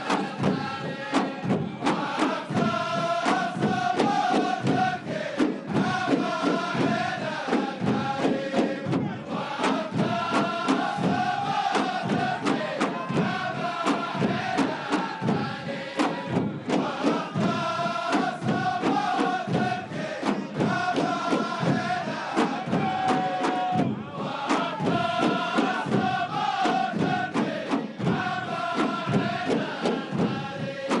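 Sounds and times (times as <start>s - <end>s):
men chanting in unison: 0.0s - 31.0s
steady drumbeat: 0.0s - 31.0s.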